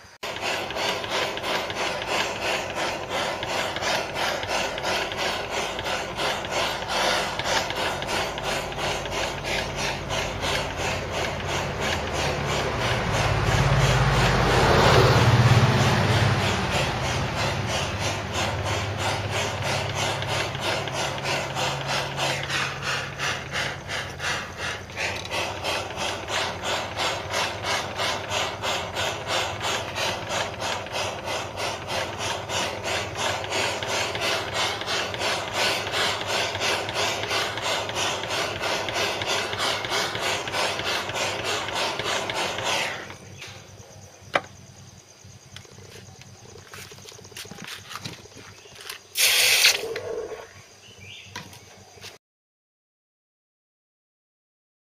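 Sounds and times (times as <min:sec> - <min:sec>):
blowtorch flame hissing: 0:00.0 - 0:50.8.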